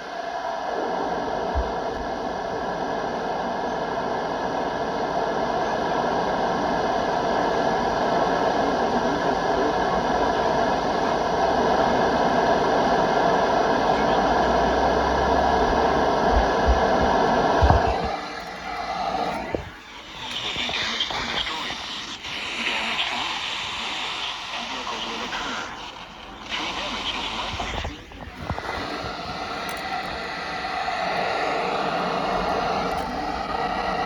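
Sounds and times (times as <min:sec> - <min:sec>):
radio static hiss: 0:00.0 - 0:34.0.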